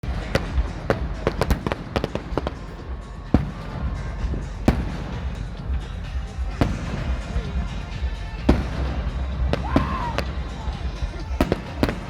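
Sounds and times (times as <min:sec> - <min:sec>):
fireworks cracking: 0:00.0 - 0:12.0
loud firework bangs: 0:00.0 - 0:12.0.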